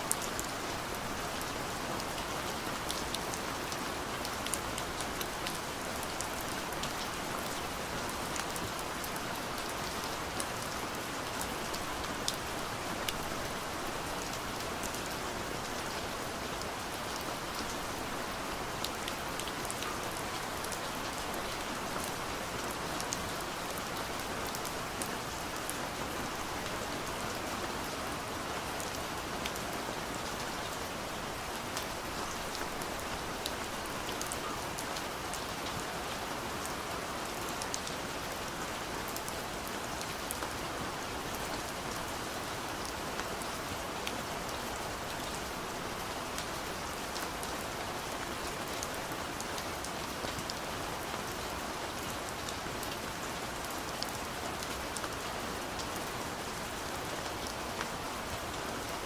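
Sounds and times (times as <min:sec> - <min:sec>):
soft rain against a window: 0:00.0 - 0:59.0.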